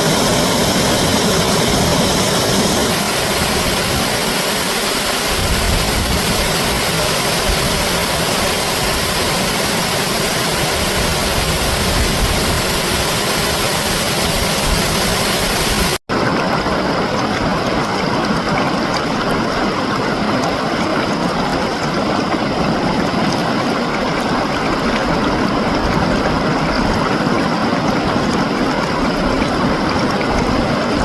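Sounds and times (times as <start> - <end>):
reversed rushing water: 0.0 - 31.0.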